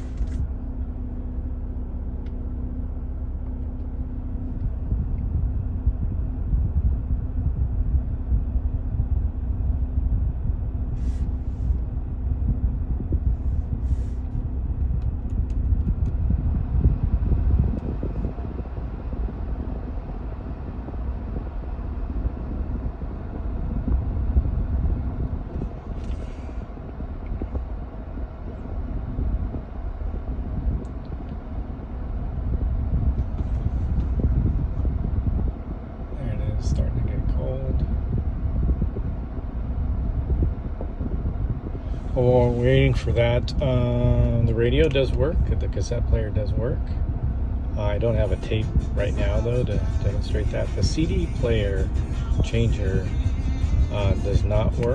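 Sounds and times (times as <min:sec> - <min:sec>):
air-conditioning fan blowing: 0:00.0 - 0:54.9
car engine idling: 0:00.0 - 0:54.9.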